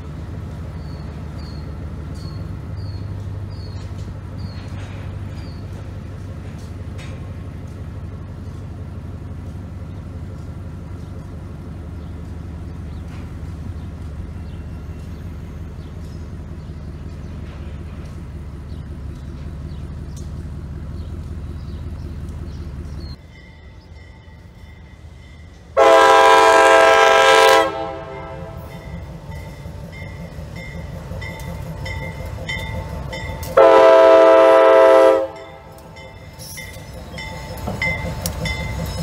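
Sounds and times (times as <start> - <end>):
diesel locomotive engines running: 0.0 - 39.0.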